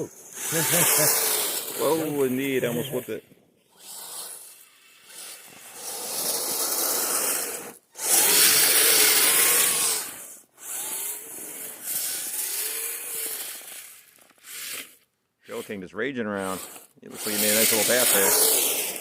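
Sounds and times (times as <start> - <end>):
faint electric motor whine: 0.0 - 19.0.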